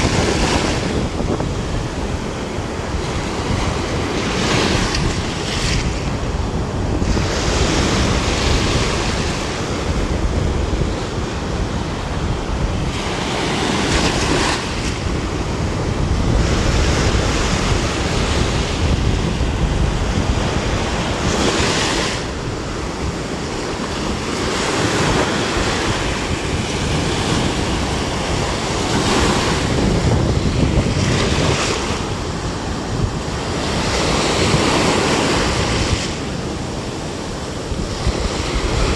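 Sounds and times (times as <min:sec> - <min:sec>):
small waves washing up beach: 0:00.0 - 0:38.9
wind buffeting microphone: 0:00.0 - 0:38.9.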